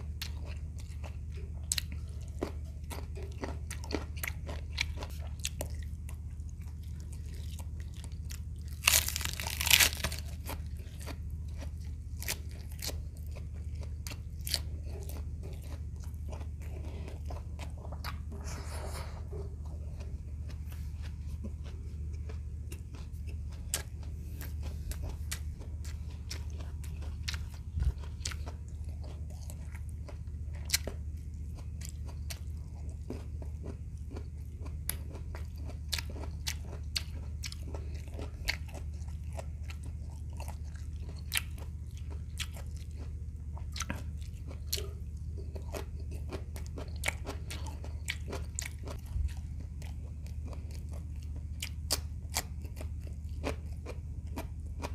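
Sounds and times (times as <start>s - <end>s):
chewing crispy food: 0.0s - 54.9s
low hum: 0.0s - 54.9s.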